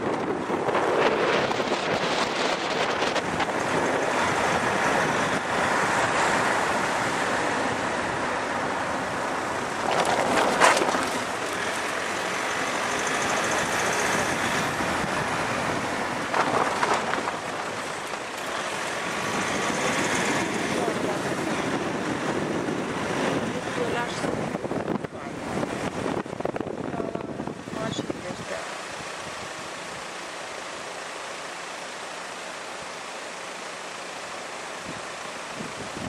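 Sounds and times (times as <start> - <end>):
tyre and wind road noise: 0.0 - 36.0.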